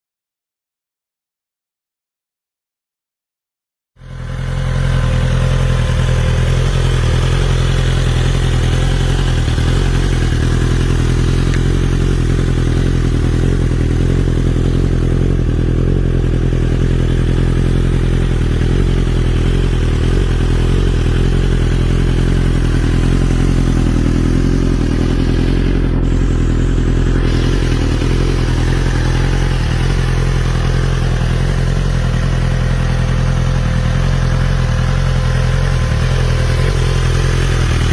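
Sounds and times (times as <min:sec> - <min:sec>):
motorcycle engine idling: 0:04.0 - 0:37.9.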